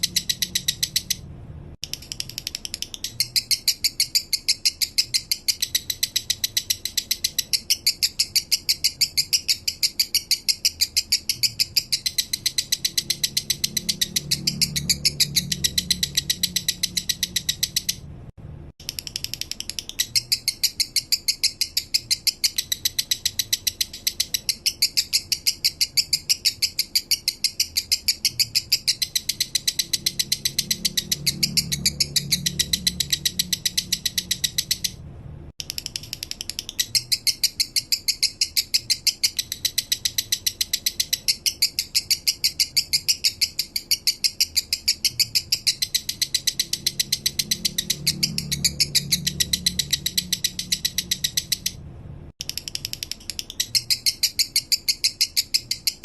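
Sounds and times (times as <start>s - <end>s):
lovebird singing high chirps: 0.0s - 1.2s, 1.8s - 18.0s, 18.9s - 35.0s, 35.6s - 51.8s, 52.4s - 56.0s.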